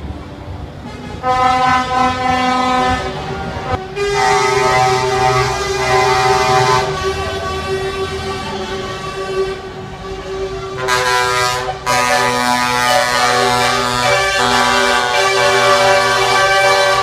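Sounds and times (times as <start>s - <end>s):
truck air horns: 0.8s - 17.0s.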